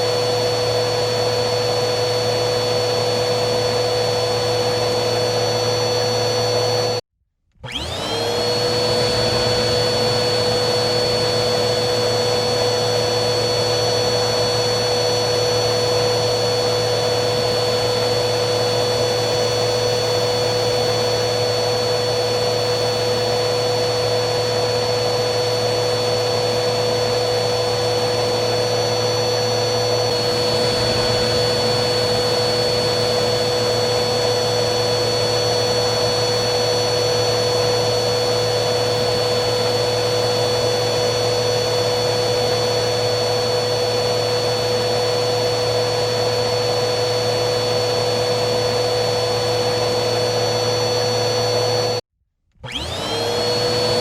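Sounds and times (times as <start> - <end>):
vacuum cleaner motor whining: 0.0 - 54.0.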